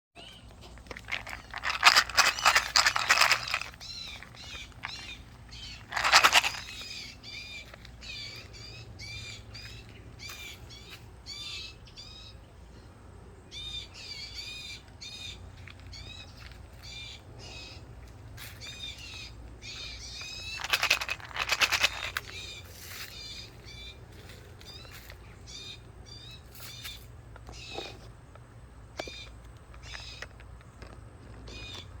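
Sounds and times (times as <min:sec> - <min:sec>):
birds chirping: 0:00.2 - 0:32.0.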